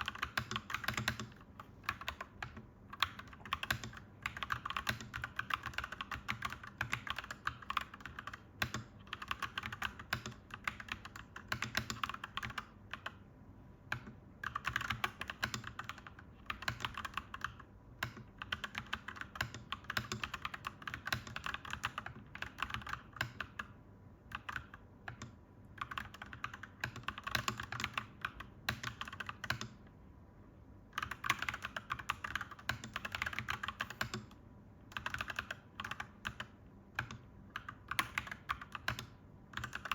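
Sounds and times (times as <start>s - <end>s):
mechanical keyboard typing: 0.0s - 13.2s, 13.9s - 29.9s, 30.9s - 39.9s.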